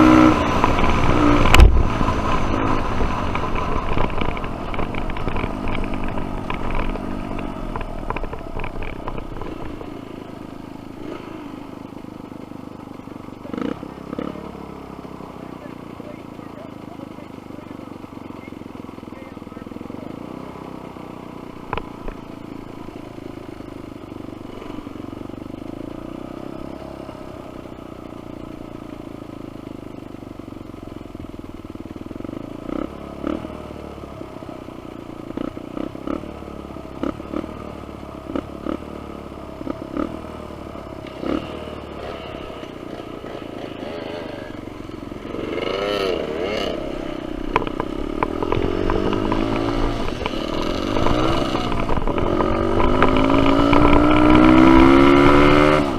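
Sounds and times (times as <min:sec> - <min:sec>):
engine revving: 0:00.0 - 0:11.8, 0:13.4 - 0:23.8, 0:24.4 - 0:25.0, 0:32.5 - 0:34.4, 0:35.2 - 0:55.9
dirt bike engines running: 0:00.0 - 0:55.9.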